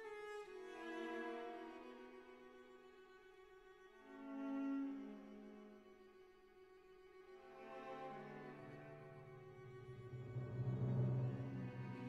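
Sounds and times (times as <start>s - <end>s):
orchestral strings: 0.0s - 12.0s.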